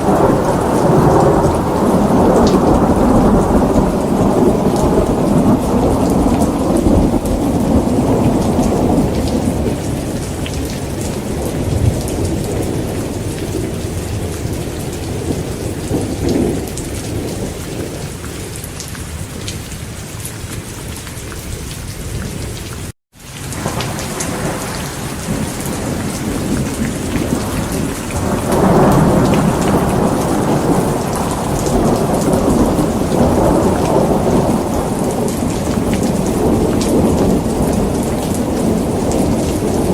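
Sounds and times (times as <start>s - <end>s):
rolling thunder: 0.0s - 18.1s, 23.4s - 39.9s
heavy rain falling: 0.0s - 39.9s.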